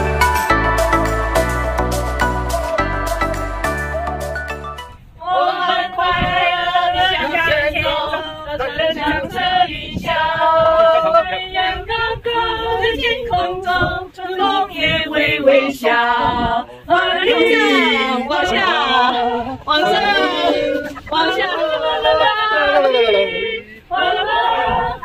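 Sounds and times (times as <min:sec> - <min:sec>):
people singing together: 0:00.0 - 0:04.6, 0:05.2 - 0:25.0.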